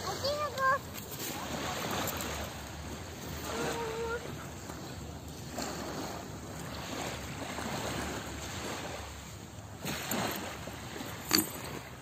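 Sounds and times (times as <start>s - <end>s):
small waves washing onto sand: 0.0s - 12.0s.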